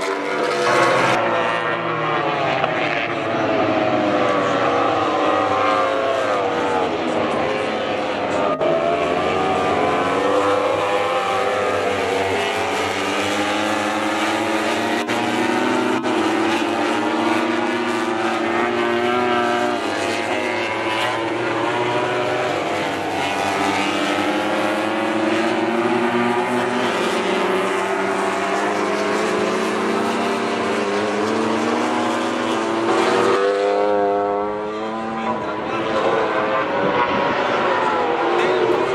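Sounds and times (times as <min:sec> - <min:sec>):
racing motorcycles revving: 0:00.0 - 0:38.9.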